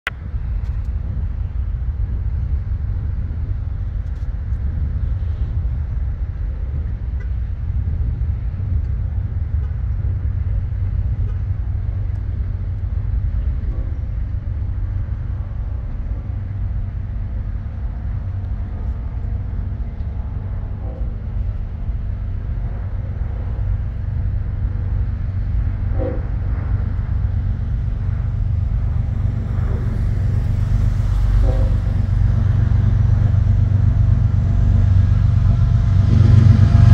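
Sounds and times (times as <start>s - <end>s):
freight train rumbling: 0.0s - 36.9s.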